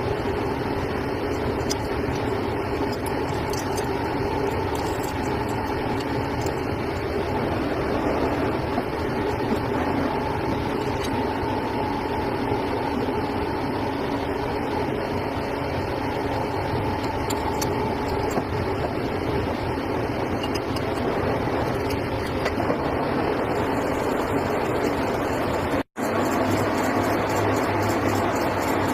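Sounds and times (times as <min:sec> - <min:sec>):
faint machine whine: 0:00.0 - 0:28.9
workshop machine running: 0:00.0 - 0:28.9.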